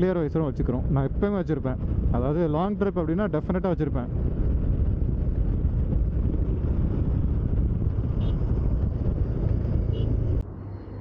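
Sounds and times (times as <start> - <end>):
wind on microphone: 0.7 - 3.3, 3.9 - 10.4
motorcycle running at speed: 0.7 - 10.4.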